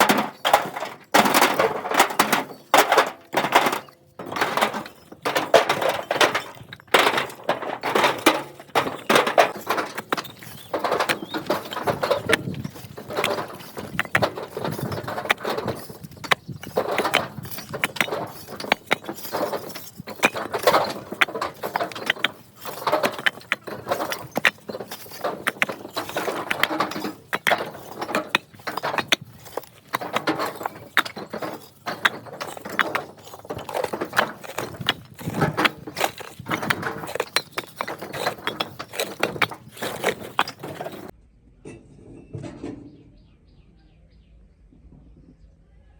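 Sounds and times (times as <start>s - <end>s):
hard objects clattering and knocking: 0.0s - 41.2s.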